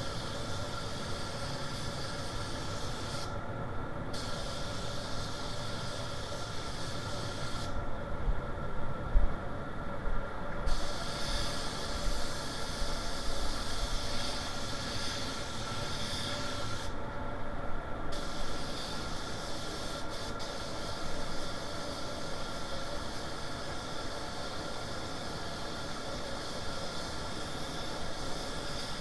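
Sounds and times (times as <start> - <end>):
spray gun hissing: 0.0 - 3.3, 4.1 - 7.8, 10.7 - 17.0, 18.1 - 29.0
steady hum: 0.0 - 29.0.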